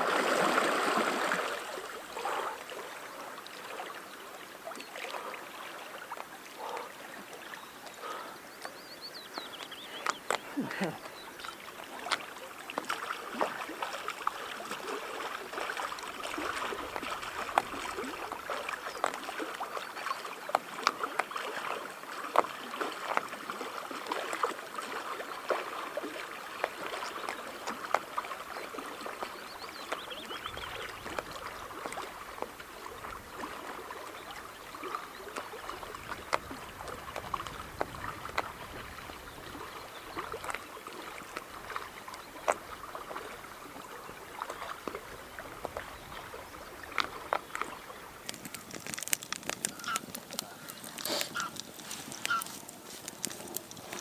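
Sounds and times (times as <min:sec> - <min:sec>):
water splashing and dripping: 0:00.0 - 0:54.0.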